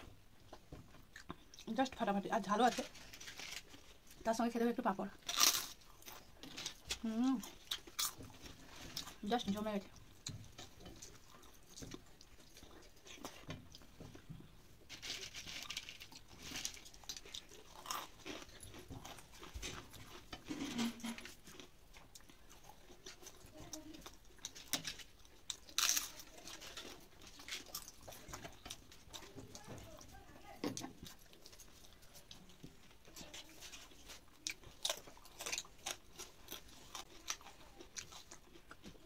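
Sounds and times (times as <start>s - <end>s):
eating rice by hand: 5.2s - 39.0s.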